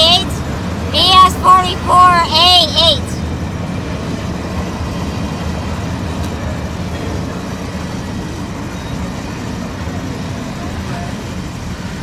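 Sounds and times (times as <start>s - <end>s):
low rumble of moving vehicles: 0.0s - 12.0s.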